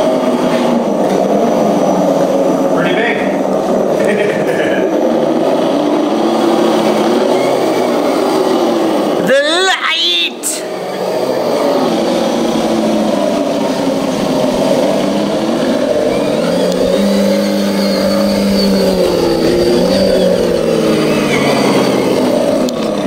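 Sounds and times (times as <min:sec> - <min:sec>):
rc crawler motors whining: 0:00.0 - 0:09.3, 0:10.6 - 0:23.0.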